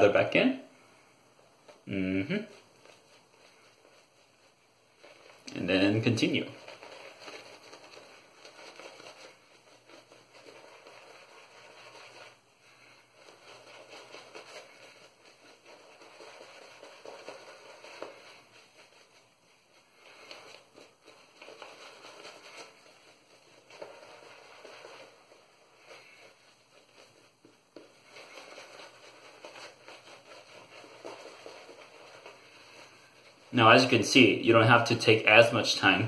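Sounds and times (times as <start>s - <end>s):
shaving brush lather crackling: 1.6s - 36.0s.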